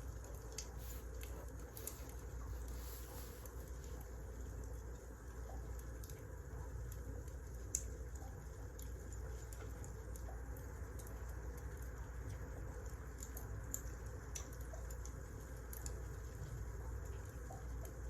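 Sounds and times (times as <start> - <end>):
low rumble of burning logs: 0.0 - 18.0
wood fire crackling: 0.0 - 18.0.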